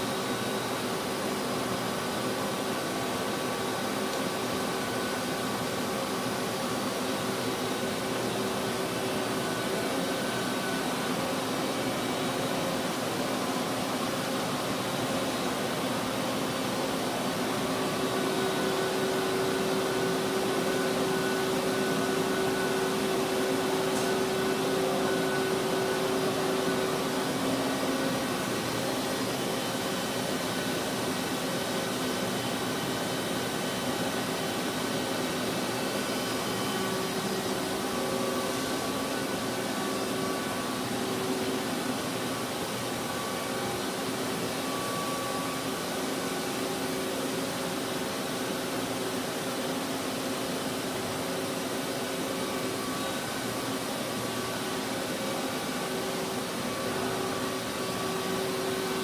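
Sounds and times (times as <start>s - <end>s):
lathe mechanical hum: 0.0s - 59.0s.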